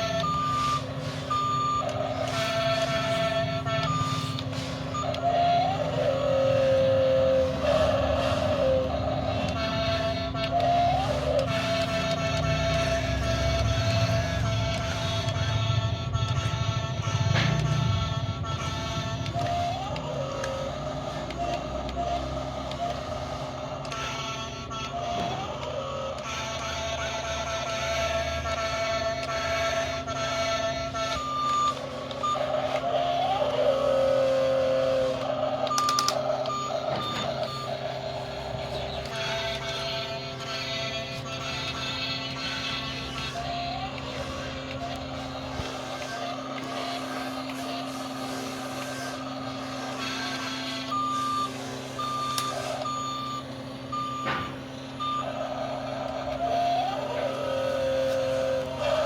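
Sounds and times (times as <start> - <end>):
electronic reversing beeps: 0.0 - 59.0
steady hum: 0.0 - 59.0
wavering tone: 0.0 - 59.0.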